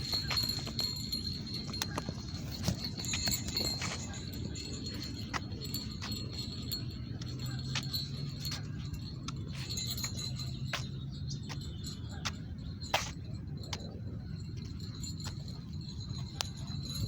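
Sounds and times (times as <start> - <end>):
footsteps of person walking: 0.0 - 17.0
low outdoor rumble: 0.0 - 17.0.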